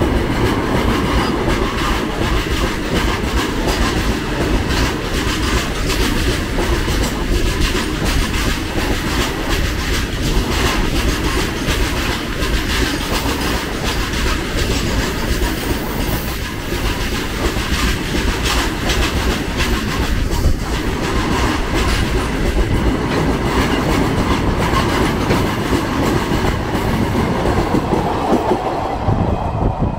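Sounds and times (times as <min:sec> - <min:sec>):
freight train wheels clattering: 0:00.0 - 0:29.9.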